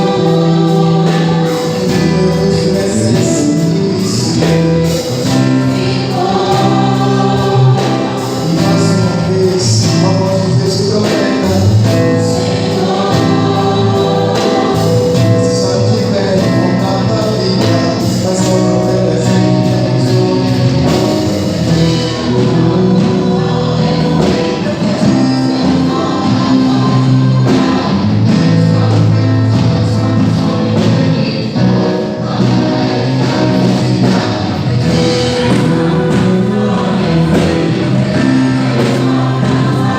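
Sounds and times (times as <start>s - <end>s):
group singing gospel song: 0.0s - 39.9s
instrumental accompaniment with beat: 0.0s - 39.9s.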